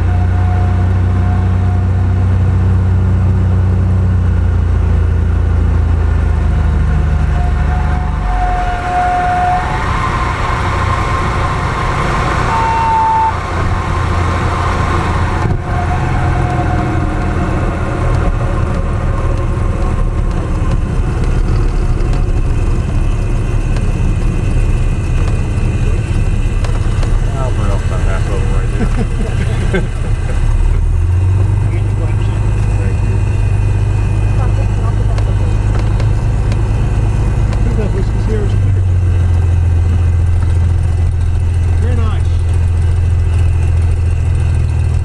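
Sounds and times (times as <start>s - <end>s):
airplane engine drone in cabin: 0.0s - 45.0s.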